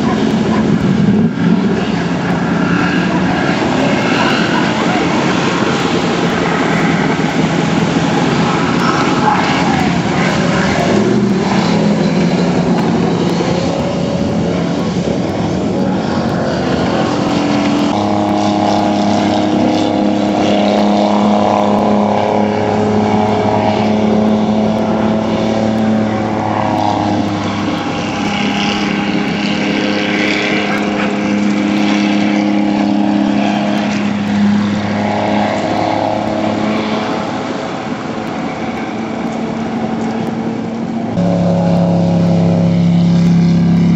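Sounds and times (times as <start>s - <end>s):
jet boat engine revving: 0.0s - 43.9s.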